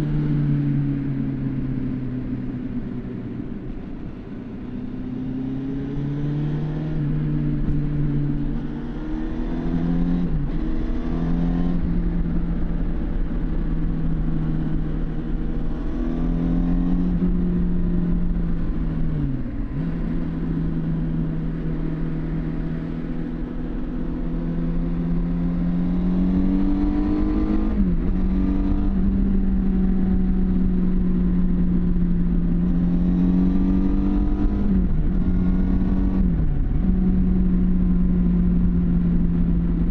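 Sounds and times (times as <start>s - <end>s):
motorcycle engine running: 7.0s - 39.9s.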